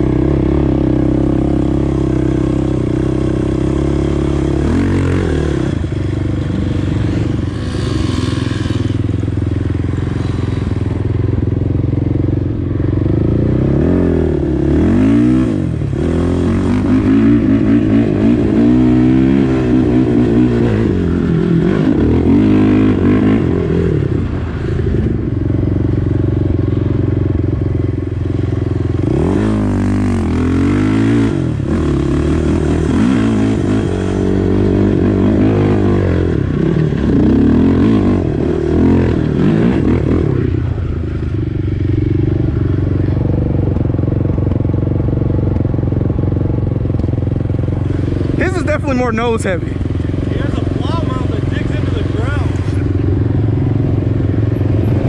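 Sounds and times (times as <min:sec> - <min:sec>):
quad engine revving: 0:00.0 - 0:27.4, 0:28.0 - 0:55.0.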